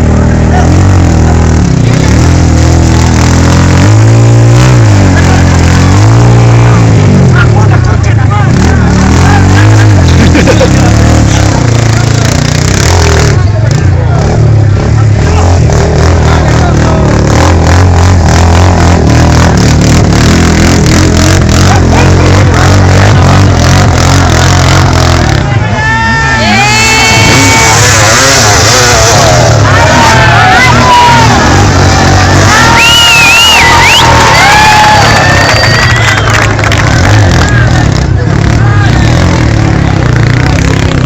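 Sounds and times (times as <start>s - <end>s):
engine revving: 0.0s - 25.7s, 26.4s - 41.0s.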